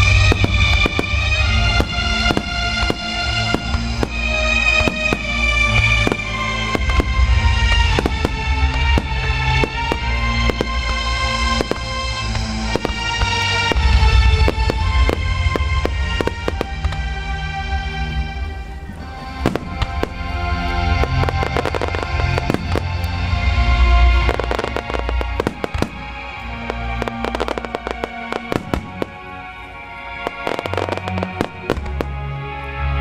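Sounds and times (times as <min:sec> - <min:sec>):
deep fireworks booms: 0:00.0 - 0:32.6
fireworks bursting and crackling: 0:00.0 - 0:33.0
recorded music: 0:00.0 - 0:33.0.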